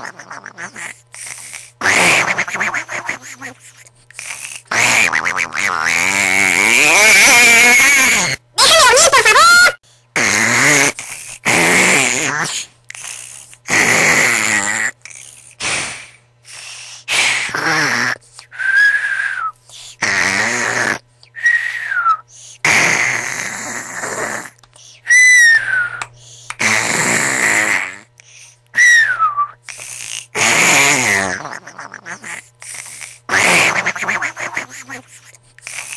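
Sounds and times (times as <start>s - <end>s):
person snoring loudly: 0.0s - 8.4s, 10.2s - 16.2s, 17.1s - 19.3s, 19.9s - 21.8s, 22.6s - 24.6s, 25.4s - 28.1s, 29.7s - 35.9s.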